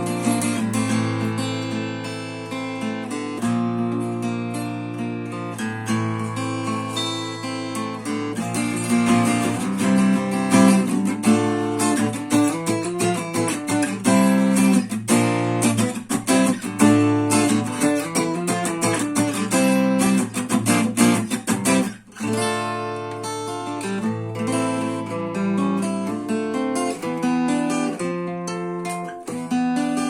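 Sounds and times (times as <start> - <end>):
acoustic guitar picking and strumming: 0.0 - 30.0.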